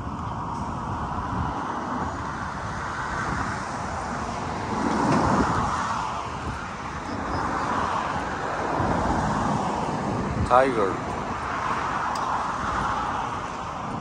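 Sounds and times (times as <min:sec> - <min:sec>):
road traffic rushing by: 0:00.0 - 0:14.0
vehicle passing: 0:00.4 - 0:14.0.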